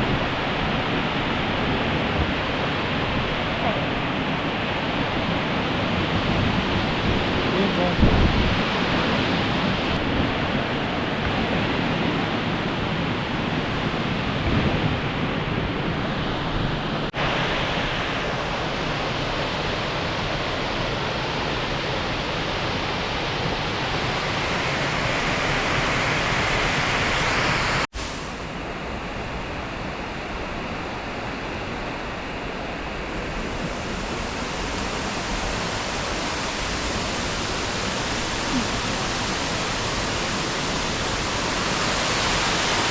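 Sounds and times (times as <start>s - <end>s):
falling water rushing: 0.0s - 28.6s, 32.5s - 42.9s.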